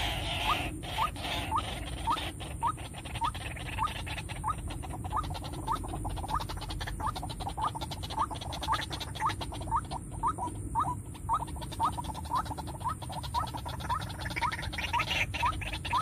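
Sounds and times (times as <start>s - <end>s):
low background rumble: 0.0s - 16.0s
waterhen calling: 0.0s - 16.0s.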